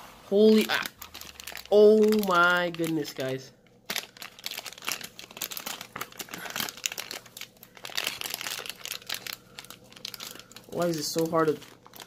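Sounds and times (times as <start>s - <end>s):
plastic pouch crinkling: 0.4s - 12.0s.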